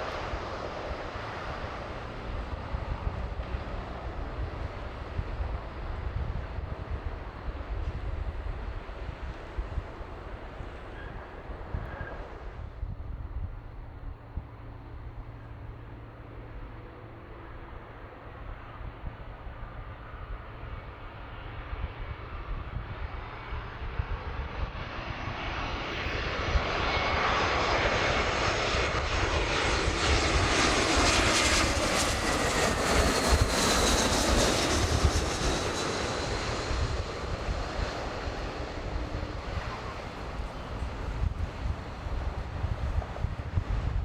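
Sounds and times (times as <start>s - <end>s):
high jet engine whine: 0.0s - 44.0s
jet airliner passing: 0.0s - 44.0s.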